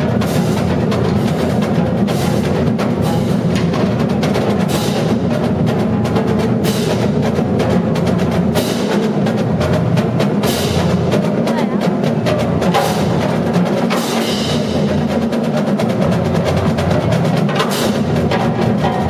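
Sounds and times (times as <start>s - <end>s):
marching drumline playing: 0.0s - 19.0s.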